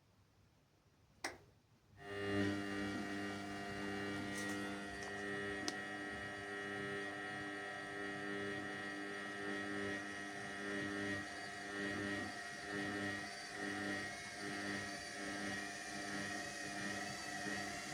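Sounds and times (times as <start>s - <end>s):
washing machine humming: 2.0s - 17.9s.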